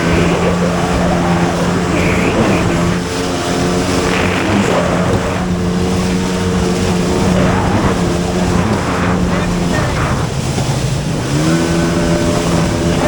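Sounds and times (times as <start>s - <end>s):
jet ski engine running: 0.0s - 13.0s
rushing water and wind: 0.0s - 13.0s.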